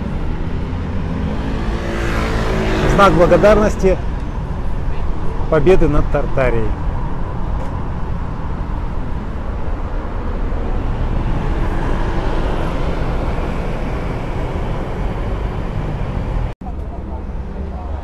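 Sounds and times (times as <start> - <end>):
vehicles passing on road: 0.0 - 18.0.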